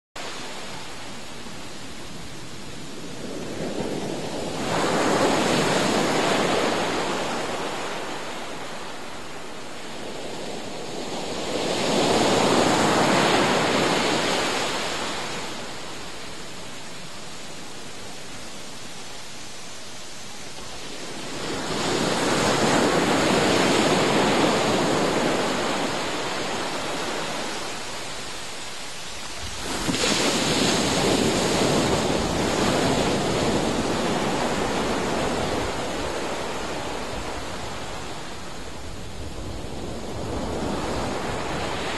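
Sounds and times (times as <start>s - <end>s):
ocean surf breaking on beach: 0.2s - 41.9s.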